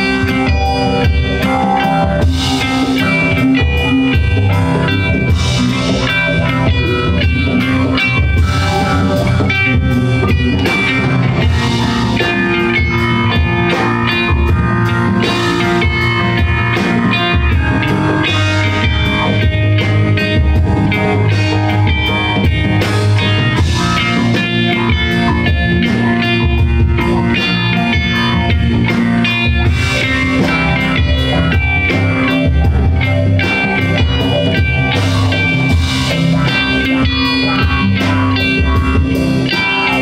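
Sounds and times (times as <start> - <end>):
bass guitar: 0.0 - 40.0
drum kit: 0.0 - 40.0
electric guitar lines: 0.0 - 40.0.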